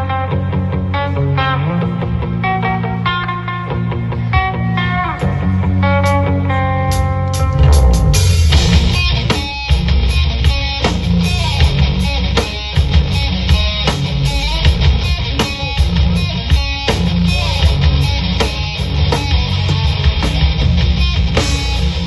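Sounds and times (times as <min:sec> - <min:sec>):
instrumental rock music: 0:00.0 - 0:22.0.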